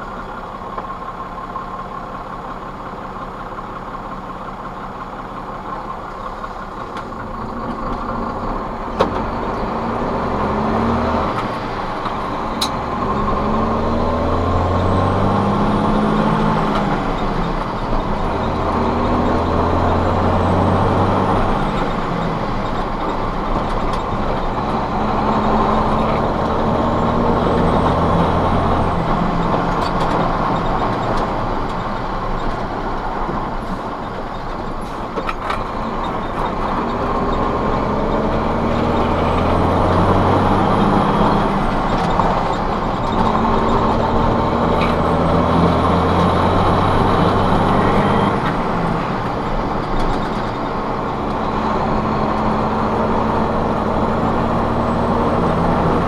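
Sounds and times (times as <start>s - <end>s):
road noise: 0.0s - 56.0s
truck diesel engine: 0.0s - 56.0s.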